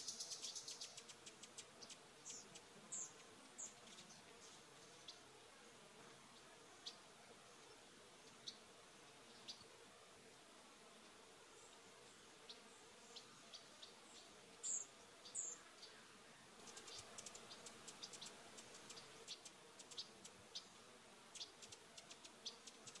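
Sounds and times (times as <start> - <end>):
small birds chip calls: 0.0 - 5.3, 6.2 - 9.8, 11.6 - 23.0.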